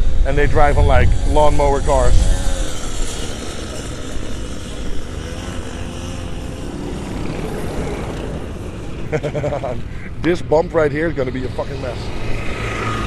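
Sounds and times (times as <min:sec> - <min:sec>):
lawnmower engines droning: 0:00.0 - 0:13.0.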